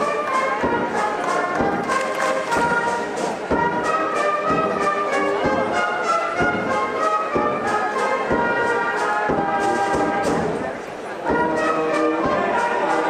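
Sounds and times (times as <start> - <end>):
brass band music: 0.0 - 13.0
steady drum beat: 0.1 - 13.0.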